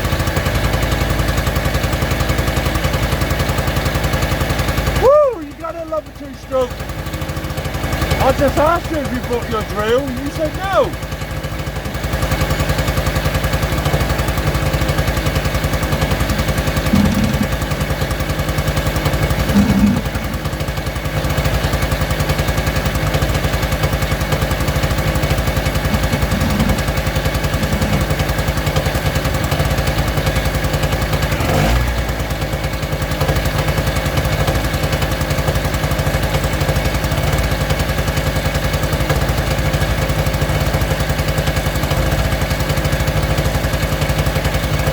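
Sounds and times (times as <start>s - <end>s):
small two-stroke engine running: 0.0s - 44.9s.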